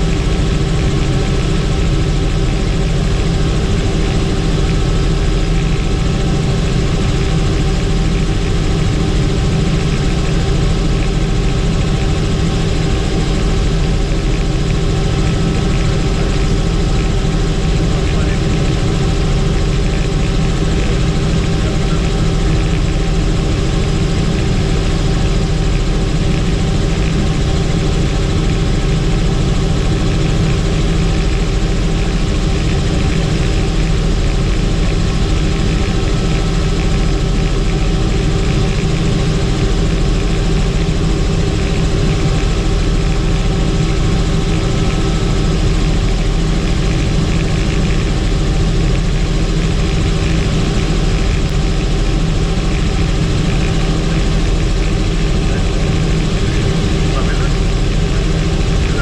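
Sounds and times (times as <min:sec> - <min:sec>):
helicopter engine and rotor noise: 0:00.0 - 0:59.0
constant tones: 0:00.1 - 0:59.0.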